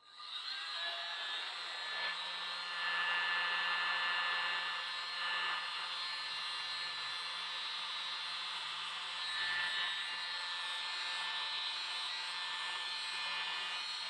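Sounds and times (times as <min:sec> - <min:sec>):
small electric air blower whirring: 0:00.0 - 0:14.0.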